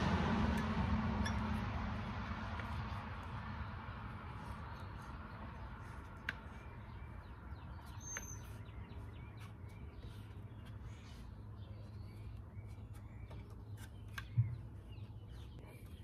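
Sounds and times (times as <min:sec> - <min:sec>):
low outdoor hum: 0:00.0 - 0:16.0
faint birds chirping: 0:02.0 - 0:16.0.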